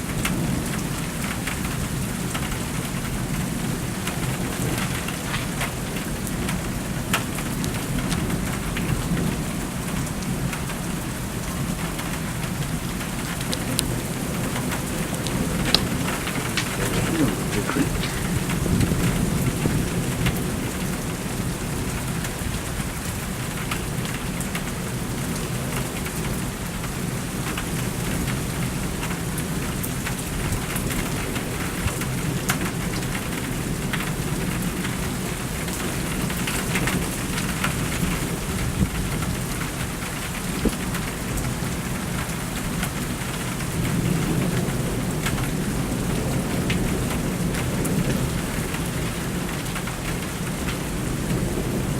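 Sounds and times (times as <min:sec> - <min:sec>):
rain pattering: 0:00.0 - 0:51.9.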